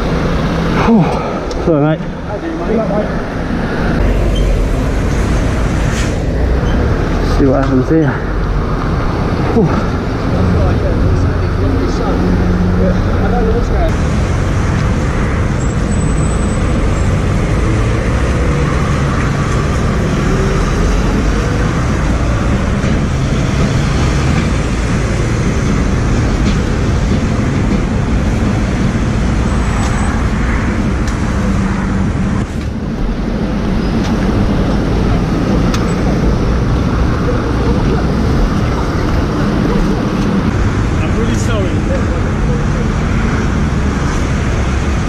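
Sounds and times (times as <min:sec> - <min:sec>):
vehicle engines running: 0:00.0 - 0:45.0.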